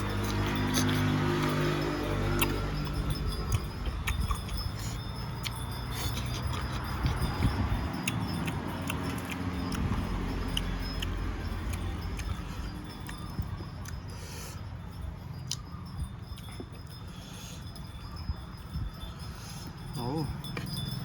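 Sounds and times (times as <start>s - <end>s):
chewing with crunches: 0.0s - 21.0s.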